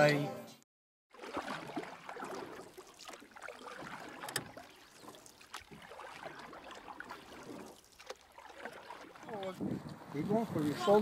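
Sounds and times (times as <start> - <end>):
water around a boat: 1.1 - 11.0
wind: 1.1 - 11.0.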